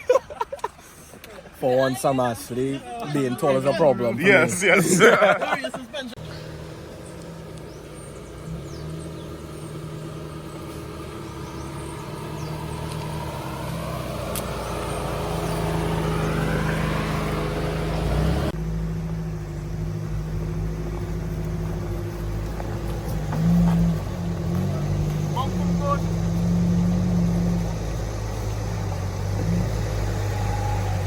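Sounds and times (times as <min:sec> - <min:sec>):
road and tyre noise: 0:00.0 - 0:31.0
vehicle engine running: 0:06.1 - 0:31.0.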